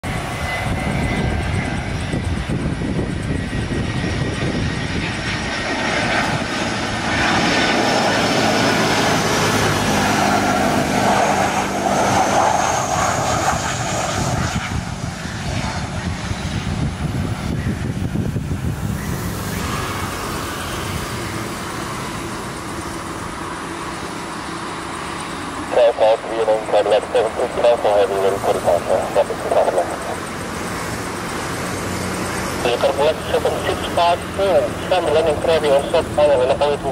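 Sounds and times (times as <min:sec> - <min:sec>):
jet engines on takeoff: 0:00.0 - 0:36.9.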